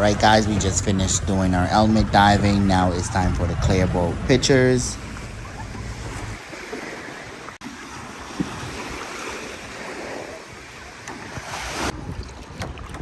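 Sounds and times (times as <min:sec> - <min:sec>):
sea water splashing: 0:00.0 - 0:13.0
wind buffeting microphone: 0:00.0 - 0:13.0.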